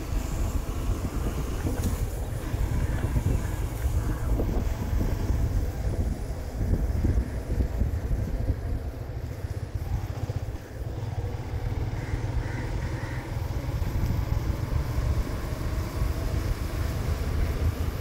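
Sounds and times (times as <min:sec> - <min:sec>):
wind on microphone: 0:00.0 - 0:11.4, 0:12.0 - 0:18.0
motorcycle engine running: 0:00.0 - 0:18.0.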